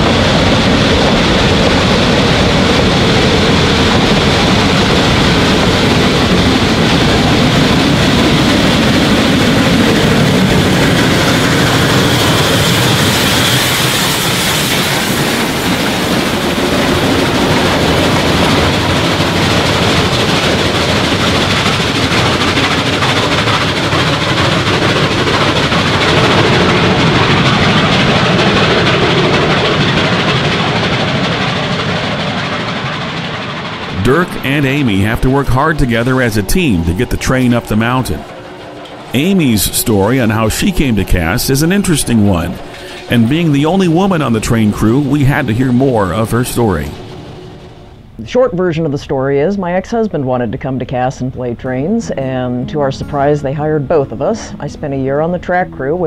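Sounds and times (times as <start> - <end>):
steam locomotive working: 0.0 - 56.0.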